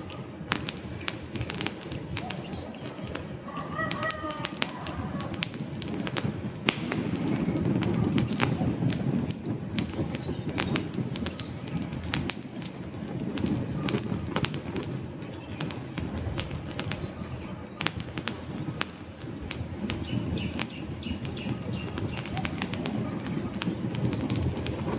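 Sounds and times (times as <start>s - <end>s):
fire popping and snapping: 0.0s - 24.9s
flames rushing: 0.0s - 24.9s.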